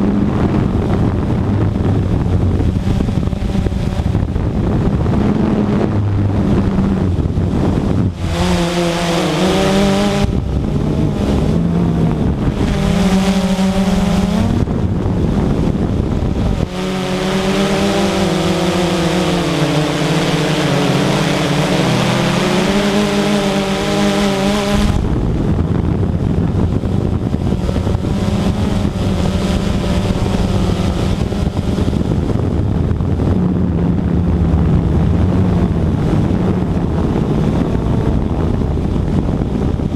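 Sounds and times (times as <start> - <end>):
model airplane motor: 0.0 - 39.9
wind rumble on microphone: 0.0 - 39.9.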